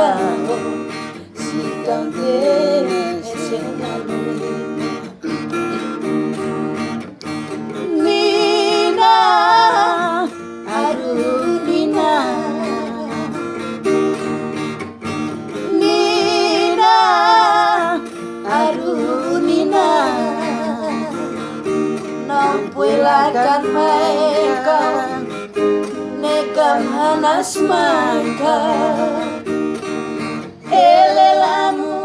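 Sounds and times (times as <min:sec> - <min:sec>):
person singing with vibrato: 0:00.0 - 0:06.0, 0:07.7 - 0:13.6, 0:15.5 - 0:29.6, 0:30.2 - 0:32.0
acoustic guitar strumming chords: 0:00.0 - 0:32.0.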